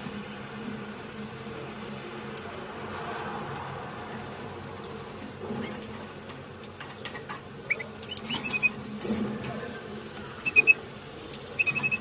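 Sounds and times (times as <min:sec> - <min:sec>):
nestlings peeping: 0:00.0 - 0:02.6, 0:04.0 - 0:12.0.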